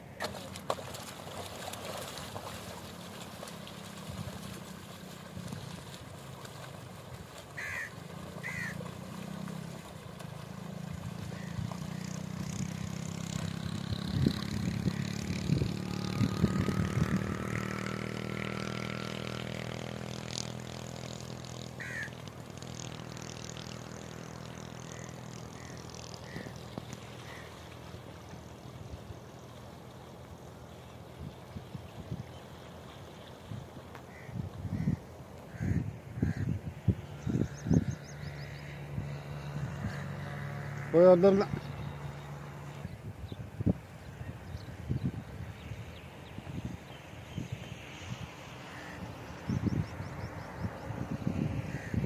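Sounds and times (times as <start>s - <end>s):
motor engine droning: 0.0s - 52.0s.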